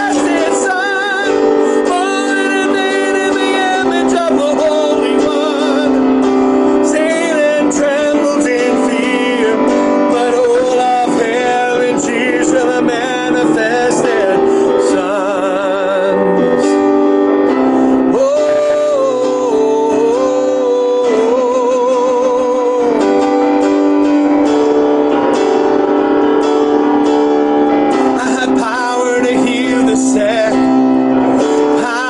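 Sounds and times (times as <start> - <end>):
man singing a worship song: 0.0 - 16.9, 17.5 - 23.6, 28.0 - 32.0
instrumental accompaniment: 0.0 - 32.0.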